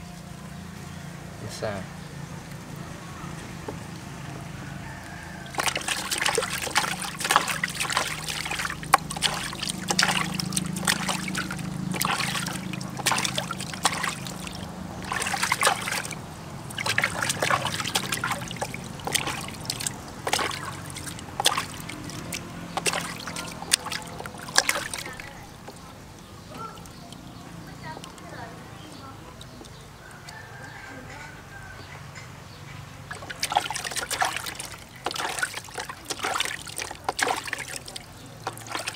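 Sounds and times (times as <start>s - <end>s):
water splashing in a plastic basin: 2.4s - 30.7s, 33.0s - 38.9s.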